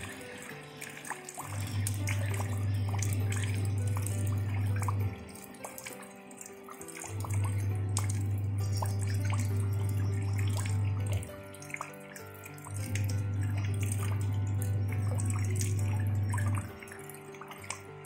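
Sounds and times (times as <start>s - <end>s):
raindrops pattering into water: 0.0s - 18.0s
relaxation music with deep notes: 0.0s - 18.0s.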